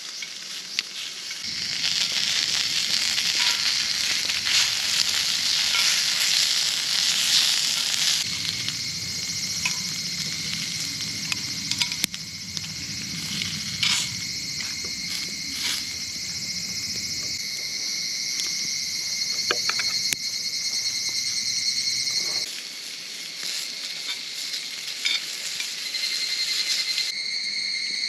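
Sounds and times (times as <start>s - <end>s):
food sizzling in a frying pan: 0.0s - 27.2s.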